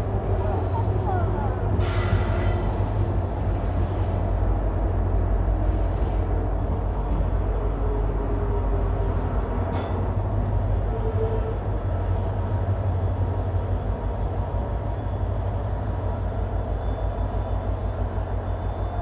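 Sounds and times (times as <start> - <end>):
train coach rumbling: 0.0 - 19.0.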